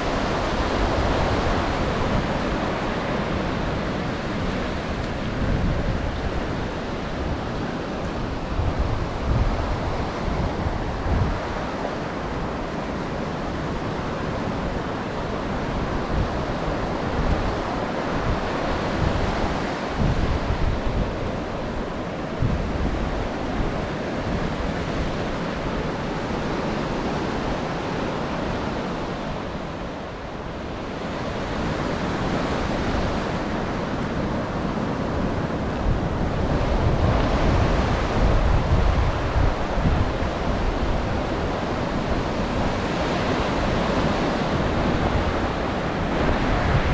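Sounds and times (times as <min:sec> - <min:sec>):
ocean surf breaking: 0:00.0 - 0:46.9
wind buffeting microphone: 0:00.0 - 0:46.9.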